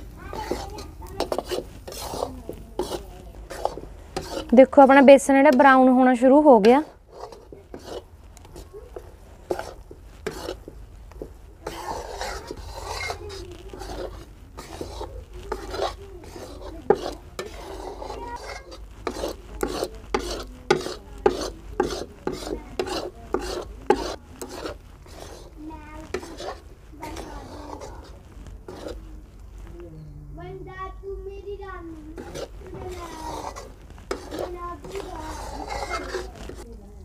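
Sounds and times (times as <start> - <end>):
metal spatula scraping a pan: 0.0 - 29.1, 32.0 - 36.7.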